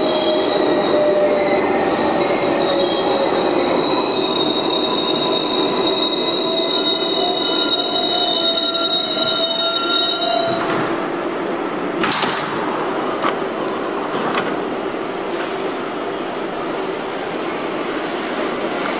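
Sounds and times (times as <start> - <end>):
train wheels squealing: 0.0 - 10.8, 12.6 - 18.9
train rolling rumble: 0.0 - 18.9.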